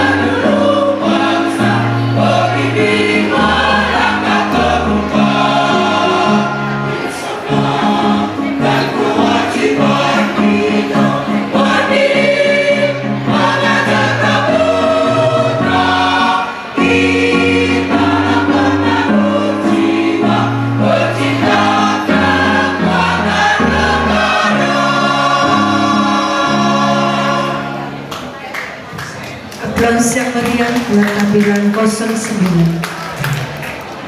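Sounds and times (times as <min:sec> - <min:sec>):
mixed choir singing: 0:00.0 - 0:28.1.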